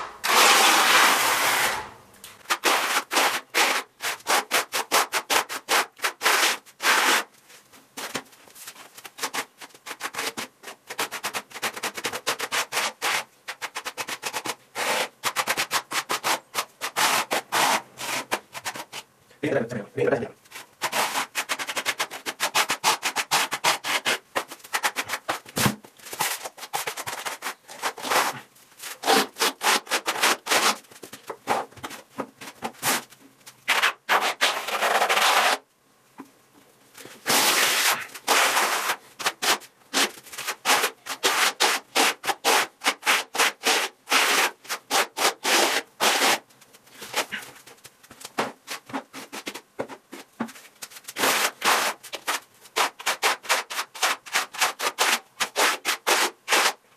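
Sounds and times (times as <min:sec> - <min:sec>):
trowel scraping plaster on wall: 0:00.2 - 0:07.3, 0:09.1 - 0:19.0, 0:20.6 - 0:35.6, 0:37.2 - 0:47.5, 0:51.1 - 0:56.8.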